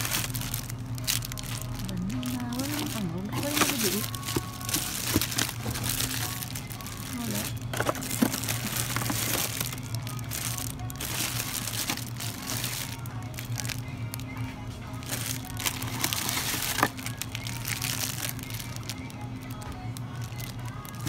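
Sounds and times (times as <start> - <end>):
background music: 0.0 - 21.0
plastic bags crinkling: 0.0 - 21.0.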